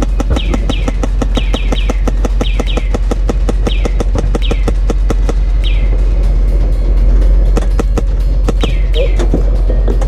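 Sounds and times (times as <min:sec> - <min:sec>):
engine humming low: 0:00.0 - 0:10.0.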